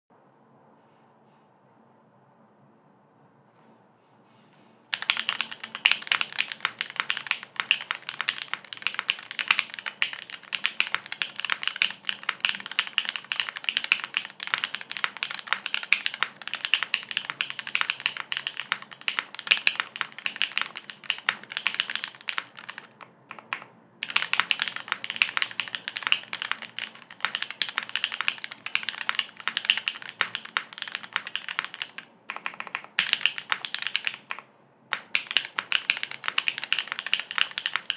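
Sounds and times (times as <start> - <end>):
fast typing on mechanical keyboard: 4.9 - 37.9.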